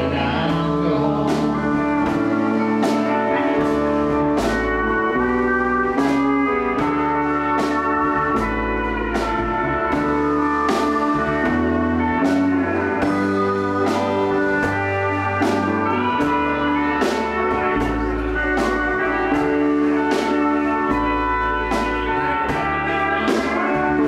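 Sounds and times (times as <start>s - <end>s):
bass guitar: 0.0s - 24.0s
drum kit steady beat: 0.0s - 24.0s
electric guitar: 0.0s - 24.0s
steel guitar: 0.0s - 24.0s.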